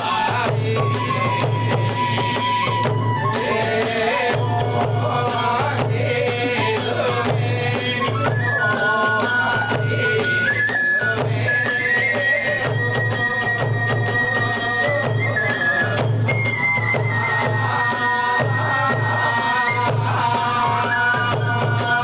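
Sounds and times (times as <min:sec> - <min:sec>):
bamboo flute high notes: 0:00.0 - 0:22.0.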